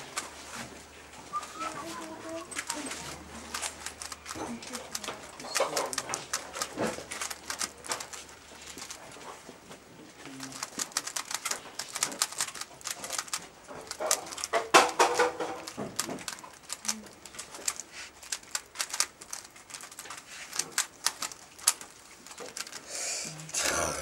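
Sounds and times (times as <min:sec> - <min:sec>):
plastic puzzle cube clicking: 0:01.5 - 0:09.2, 0:10.3 - 0:22.9.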